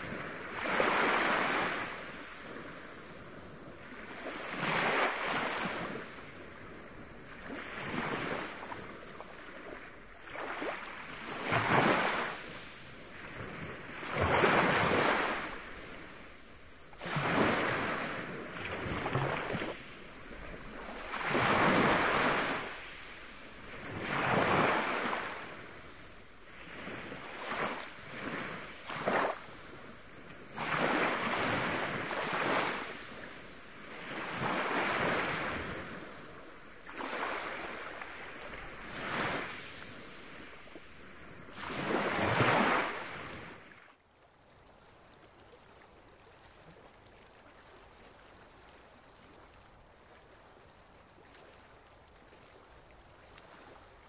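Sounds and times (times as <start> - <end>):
waves breaking on shore: 0.0 - 44.0.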